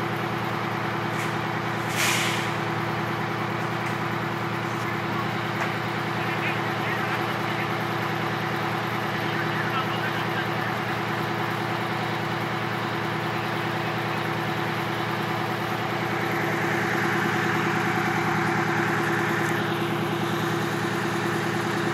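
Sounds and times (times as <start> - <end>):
fire engine idling: 0.0 - 21.9.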